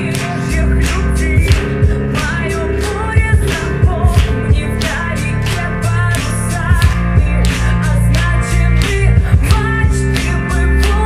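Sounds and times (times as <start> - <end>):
bass: 0.0 - 11.0
keyboards: 0.0 - 11.0.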